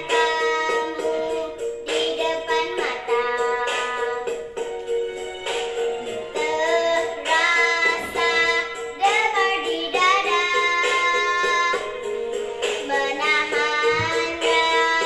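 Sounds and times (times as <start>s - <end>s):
girl singing: 0.0s - 4.4s, 6.3s - 12.0s, 12.8s - 15.0s
instrumental accompaniment: 0.0s - 15.0s.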